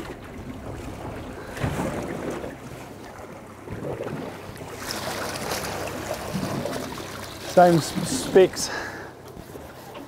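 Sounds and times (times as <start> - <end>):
water slapping against hull: 0.0 - 10.0.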